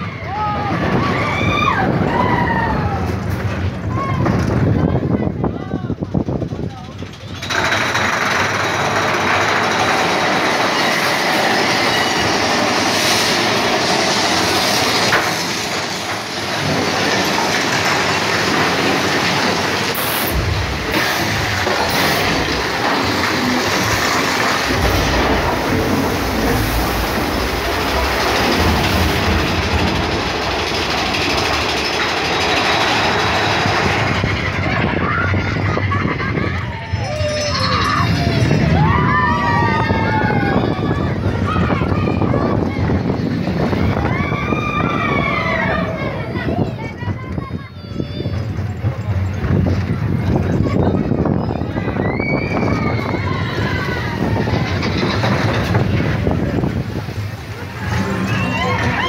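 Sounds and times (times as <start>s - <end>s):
roller coaster rattling and rumbling: 0.0s - 59.0s.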